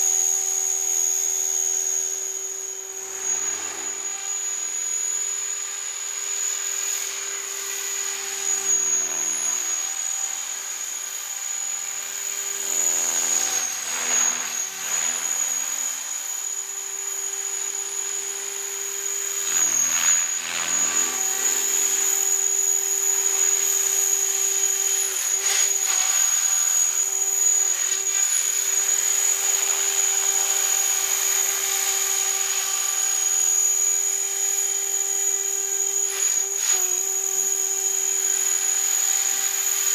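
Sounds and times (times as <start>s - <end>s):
toy helicopter motor whining: 0.0s - 39.9s.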